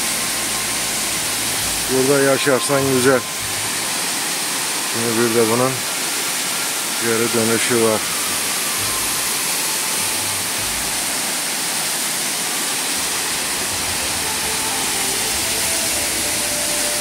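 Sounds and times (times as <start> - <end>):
waterfall rushing into a pool: 0.0 - 17.0.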